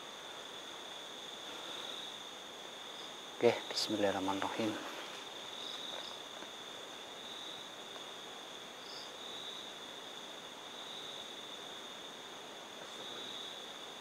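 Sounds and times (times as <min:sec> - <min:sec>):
faint hiss: 0:00.0 - 0:14.0
insects chirring: 0:00.0 - 0:14.0.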